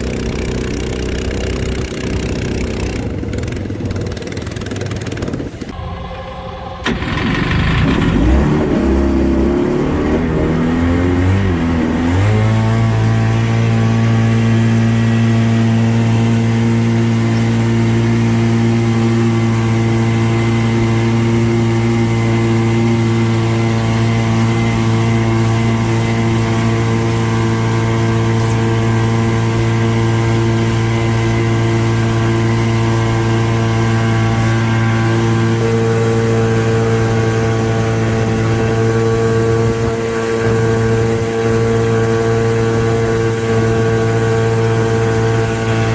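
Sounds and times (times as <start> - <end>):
boat engine running: 0.0 - 45.9.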